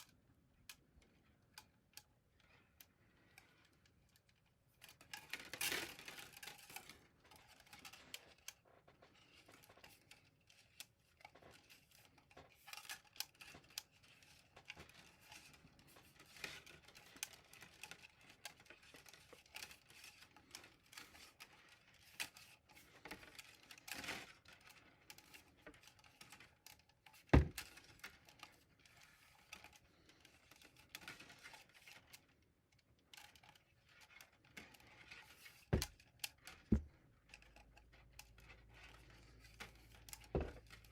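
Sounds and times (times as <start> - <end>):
filament winding clicks and rustles: 0.0 - 40.9.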